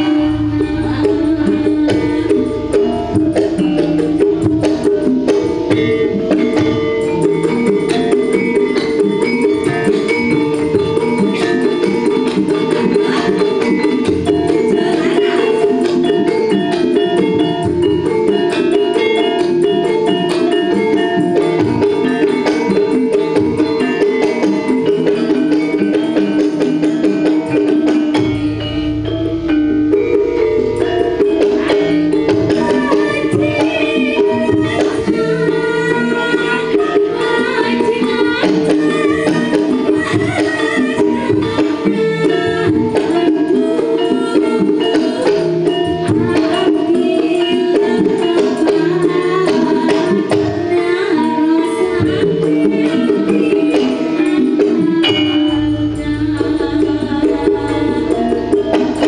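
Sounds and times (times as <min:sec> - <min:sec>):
drum strokes: 0:00.0 - 0:59.0
metallophones ringing: 0:00.0 - 0:59.0.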